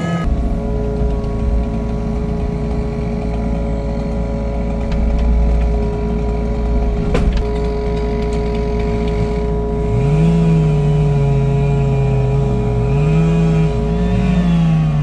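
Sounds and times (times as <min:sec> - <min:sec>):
engine running steadily: 0:00.0 - 0:15.0
steady whine: 0:00.0 - 0:15.0.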